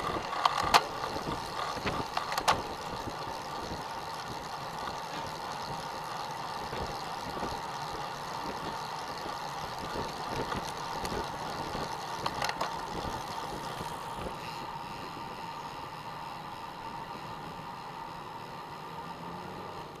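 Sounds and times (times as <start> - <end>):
tyre noise on road: 0.0 - 20.0.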